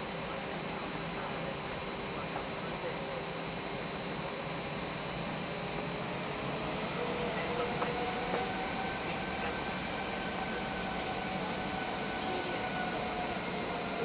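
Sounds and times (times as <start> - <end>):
idling jet engines: 0.0 - 14.0.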